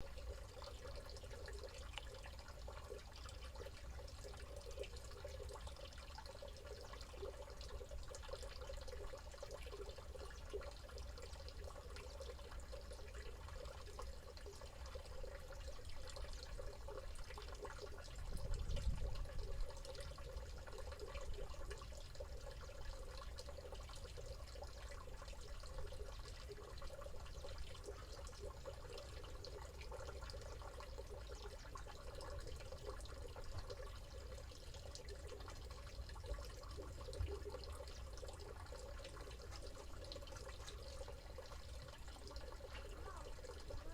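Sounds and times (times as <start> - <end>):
stream water trickling: 0.0 - 43.9.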